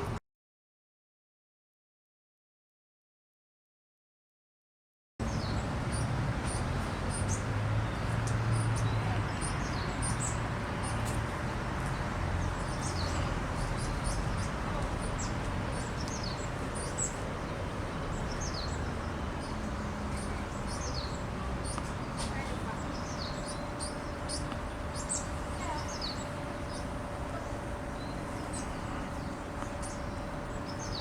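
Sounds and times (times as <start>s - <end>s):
small birds chirping: 5.2s - 31.0s.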